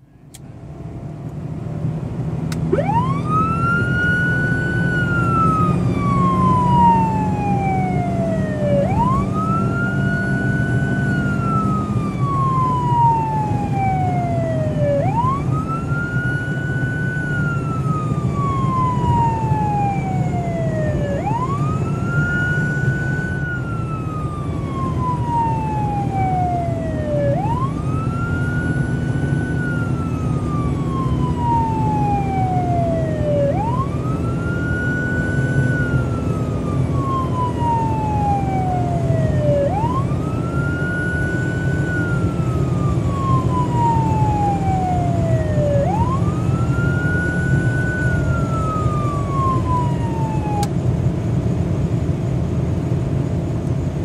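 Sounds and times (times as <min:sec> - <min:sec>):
engine and road rumble: 0:00.0 - 0:54.0
police siren wailing: 0:02.5 - 0:50.8.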